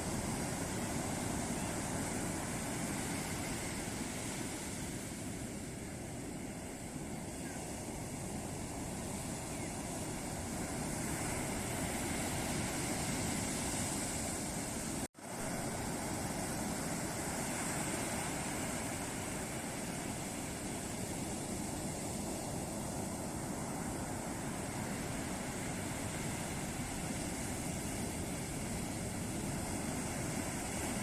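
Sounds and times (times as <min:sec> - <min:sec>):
ocean waves breaking on beach: 0:00.0 - 0:31.0.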